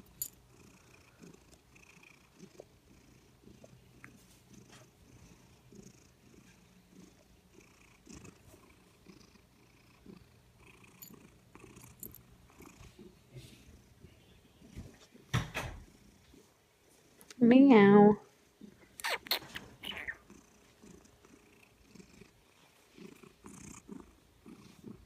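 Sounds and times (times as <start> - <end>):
cat purring: 0.5 - 17.3, 18.2 - 25.0.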